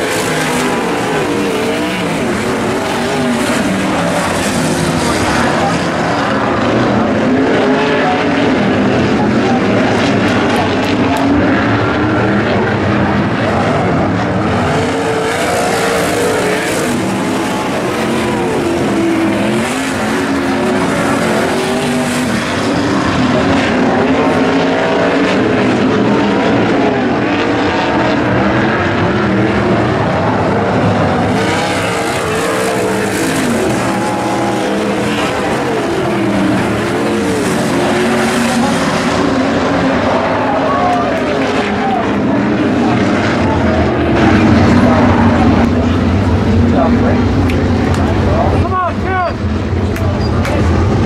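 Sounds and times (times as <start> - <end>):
sprint car engines racing: 0.0 - 51.0.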